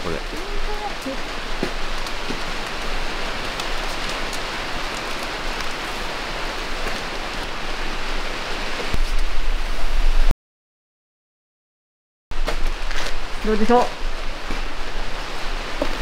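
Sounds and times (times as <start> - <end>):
rain on a roof: 0.0 - 10.3, 12.3 - 16.0.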